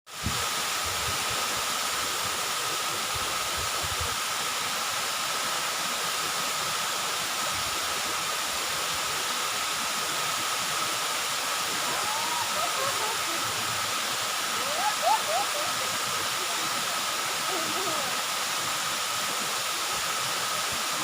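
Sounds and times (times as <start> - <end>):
waterfall roaring: 0.2 - 21.0.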